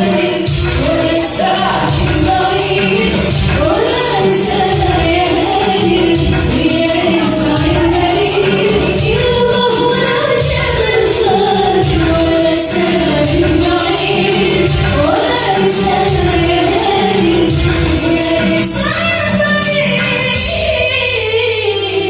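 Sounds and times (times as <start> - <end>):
steady percussion beat: 0.0 - 21.0
instrumental accompaniment: 0.0 - 22.0
woman singing: 0.0 - 22.0.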